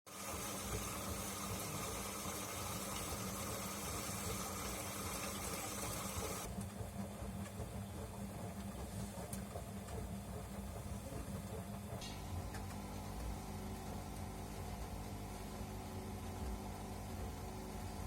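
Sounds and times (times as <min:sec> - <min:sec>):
washing machine hum: 0:00.1 - 0:18.0.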